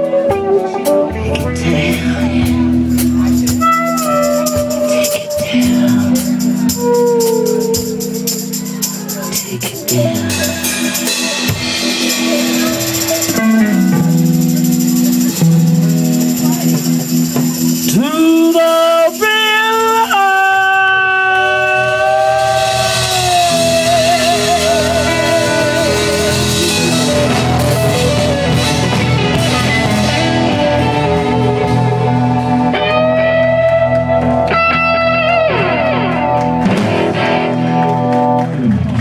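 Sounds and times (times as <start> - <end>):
blues-rock band playing: 0.0 - 39.0.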